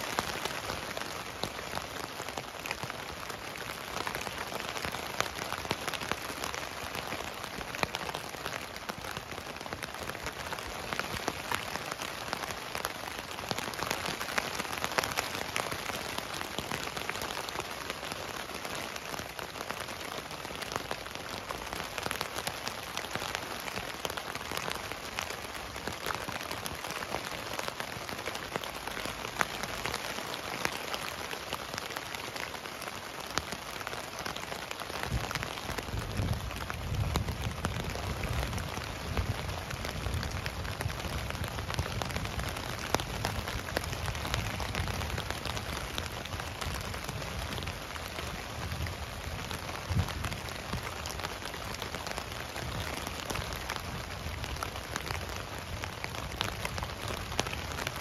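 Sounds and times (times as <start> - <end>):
rain tapping on tent fabric: 0.0 - 58.0.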